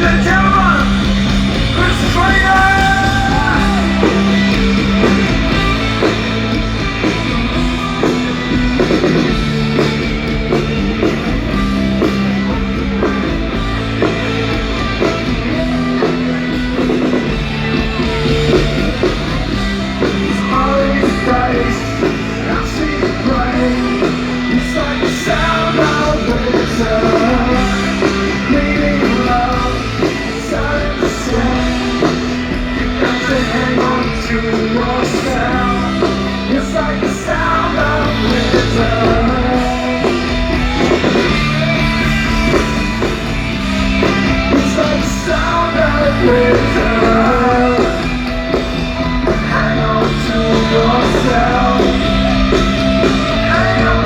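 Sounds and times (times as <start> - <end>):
bass line: 0.0 - 54.0
live rock band playing: 0.0 - 54.0
person singing: 0.0 - 54.0.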